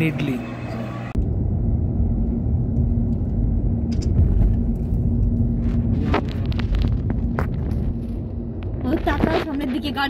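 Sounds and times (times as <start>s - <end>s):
low hum: 0.0s - 10.0s
car cabin road rumble: 0.2s - 10.0s.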